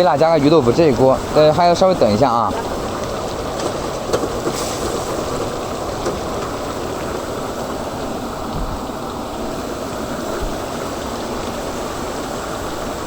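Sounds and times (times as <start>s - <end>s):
chicken sizzling in a wok: 0.0s - 13.0s.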